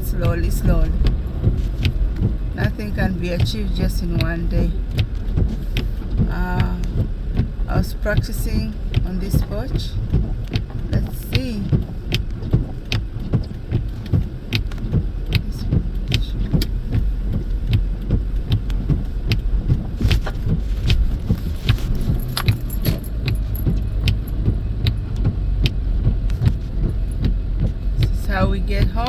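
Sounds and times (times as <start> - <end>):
car engine and tyres rumbling: 0.0 - 29.0
sharp clicks and rattles: 0.1 - 29.0.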